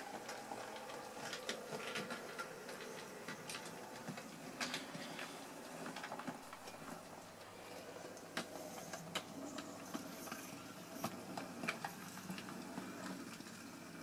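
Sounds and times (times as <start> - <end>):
wheels clicking over rail joints: 0.0 - 14.0.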